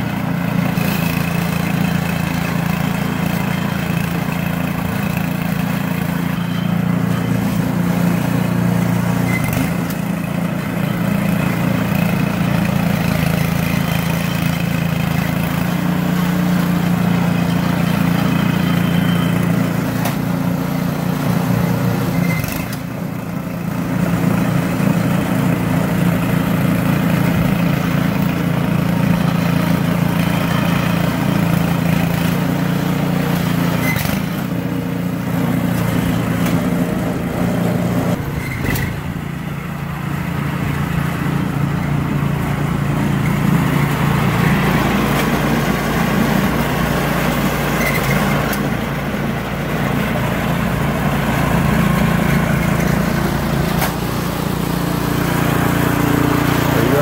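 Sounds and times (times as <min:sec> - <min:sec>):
snowblower engine running: 0:00.0 - 0:57.0.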